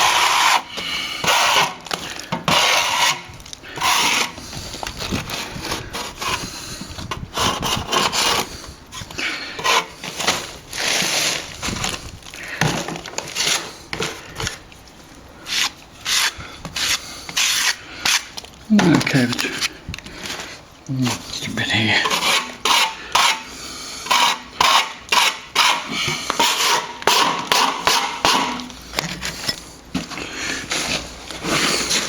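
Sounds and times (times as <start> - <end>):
plastering tool scraping wall: 0.0 - 14.6, 15.4 - 32.0.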